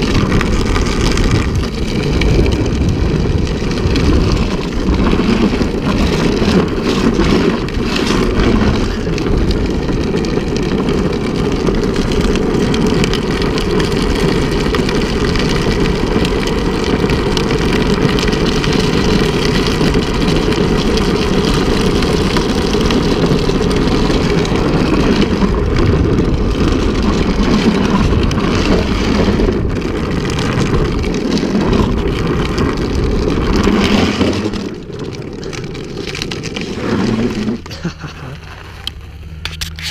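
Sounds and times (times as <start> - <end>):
trike road noise: 0.0 - 39.9.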